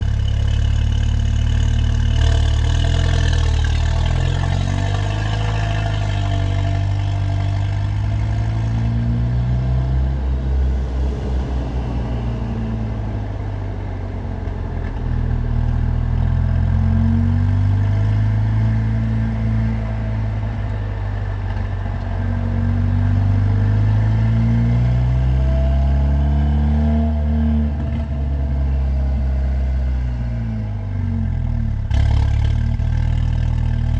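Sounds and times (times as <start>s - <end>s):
loud car exhaust accelerating: 0.0s - 33.9s.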